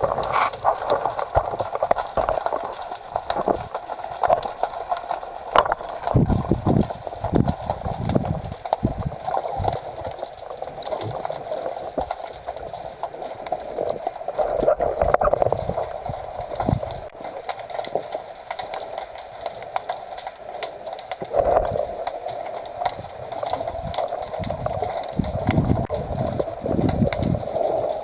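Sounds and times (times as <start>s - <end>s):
underwater crackling clicks: 0.0s - 28.0s
water rushing: 0.0s - 28.0s.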